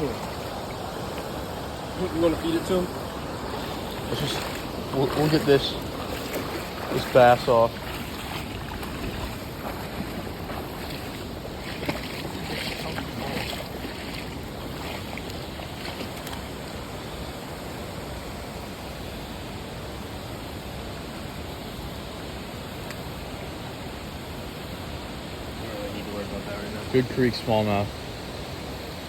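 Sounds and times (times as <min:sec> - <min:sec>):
creek water flowing: 0:00.0 - 0:29.0.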